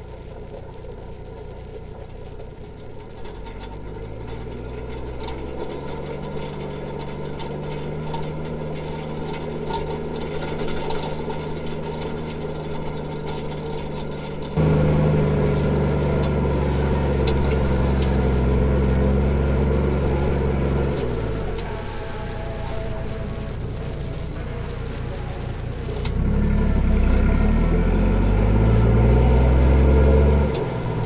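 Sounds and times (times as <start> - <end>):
diesel engine droning: 0.0 - 31.0.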